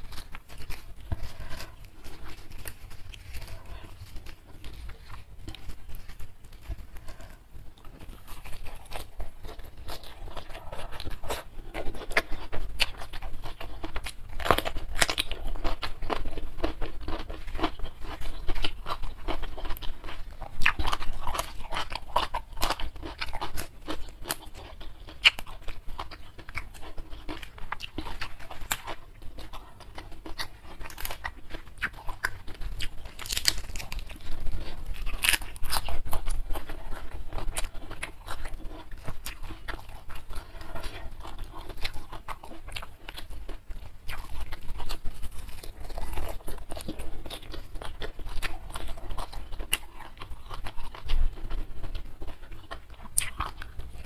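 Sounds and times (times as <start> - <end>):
chewing and crunching vegetables: 0.0 - 54.0.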